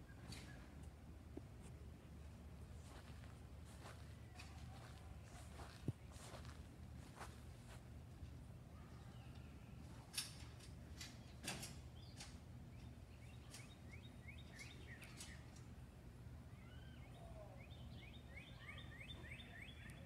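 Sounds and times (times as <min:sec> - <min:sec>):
faint birdsong: 0:00.0 - 0:20.0
low steady hum: 0:00.0 - 0:20.0.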